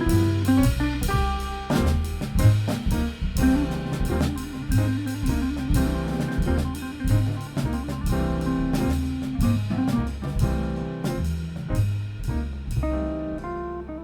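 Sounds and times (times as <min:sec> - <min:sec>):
drum kit steady beat: 0:00.0 - 0:14.0
jazz-flavoured band song: 0:00.0 - 0:14.0
walking bass line: 0:00.0 - 0:14.0.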